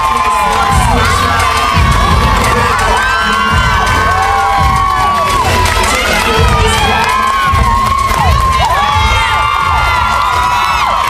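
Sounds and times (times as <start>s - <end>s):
crowd cheering: 0.0s - 11.0s
high-pitched screams: 0.0s - 11.0s.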